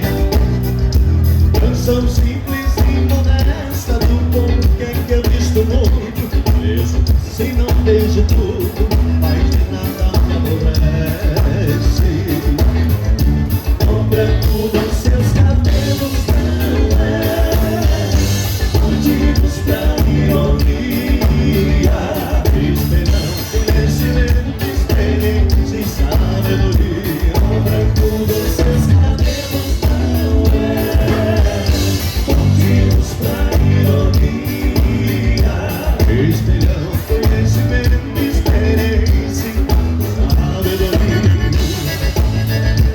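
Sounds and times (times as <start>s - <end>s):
live band music: 0.0s - 42.9s
person singing: 0.0s - 42.9s
steady bass beat: 0.0s - 42.9s.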